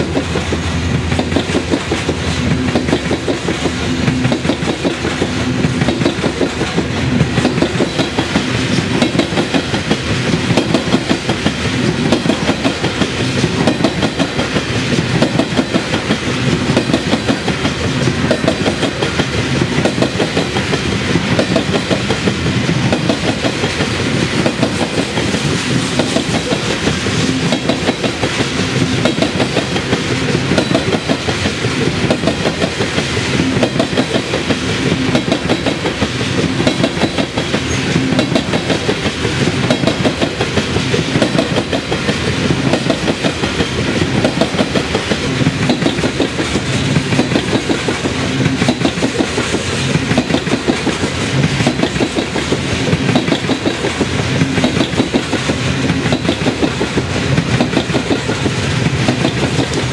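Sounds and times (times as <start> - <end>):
train rumble: 0.0 - 59.9
train wheels clicking on rail joints: 0.0 - 59.9.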